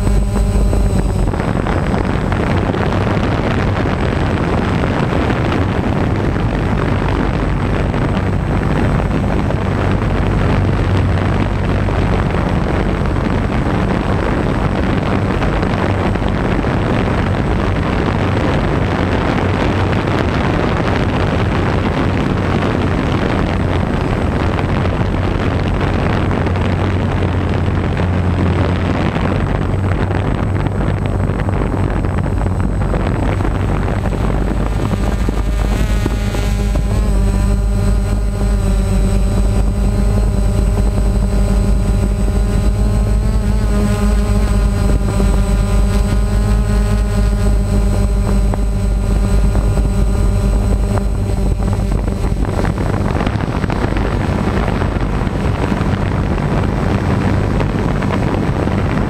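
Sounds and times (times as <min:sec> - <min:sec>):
engine droning: 0:00.0 - 0:59.0
wind rumbling on microphone: 0:00.0 - 0:59.0.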